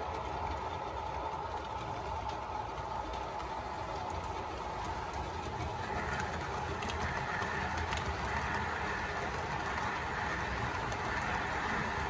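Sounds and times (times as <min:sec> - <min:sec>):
model train running by: 0:00.0 - 0:12.0.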